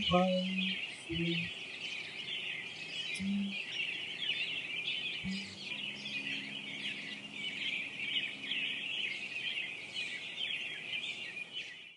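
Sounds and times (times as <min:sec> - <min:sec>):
birds chirping and twittering: 0:00.0 - 0:11.9.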